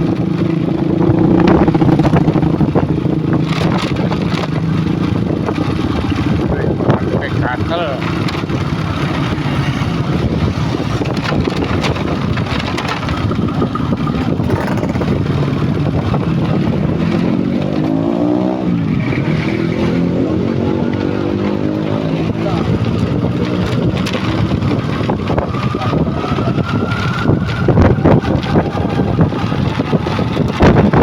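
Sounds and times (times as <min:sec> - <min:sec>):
heavy truck engine revving: 0:00.0 - 0:26.4.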